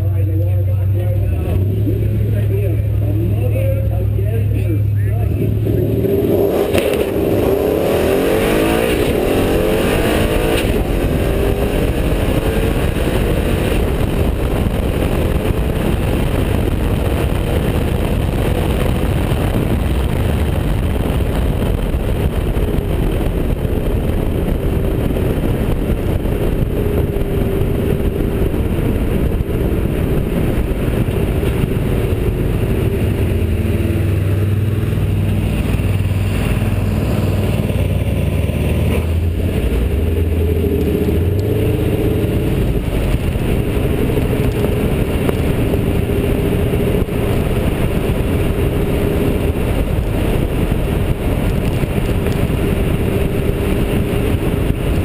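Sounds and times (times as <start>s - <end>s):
car engine accelerating hard: 0.0s - 55.0s
rushing air: 5.6s - 55.0s.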